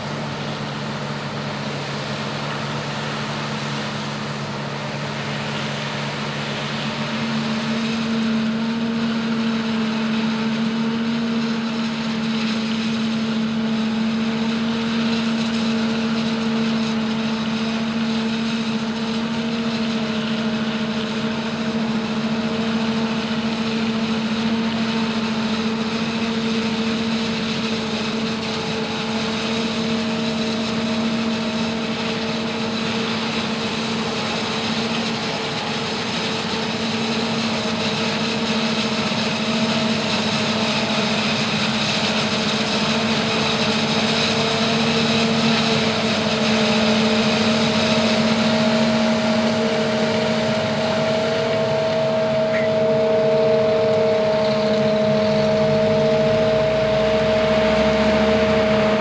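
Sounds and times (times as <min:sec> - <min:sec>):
forage harvester machine drone: 0:00.0 - 0:59.0.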